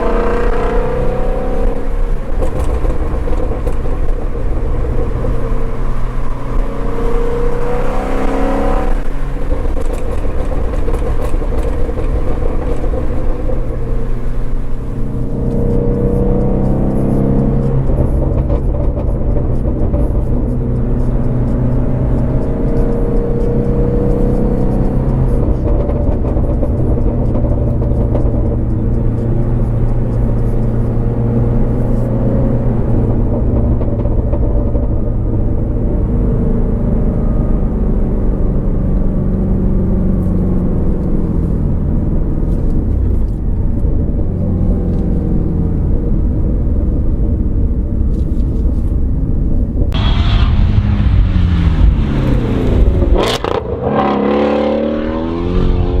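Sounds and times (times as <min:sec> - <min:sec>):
exhaust crack: 0:00.0 - 0:36.8, 0:38.9 - 0:56.0
car engine running: 0:00.0 - 0:56.0.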